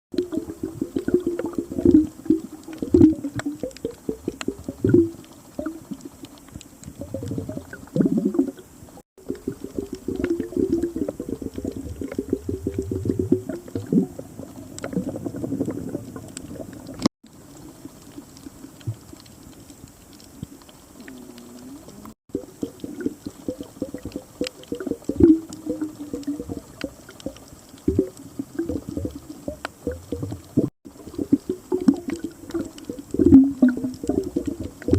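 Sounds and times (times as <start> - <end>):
underwater bubbles gurgling: 0.1 - 34.9
water churning underwater: 0.1 - 34.9.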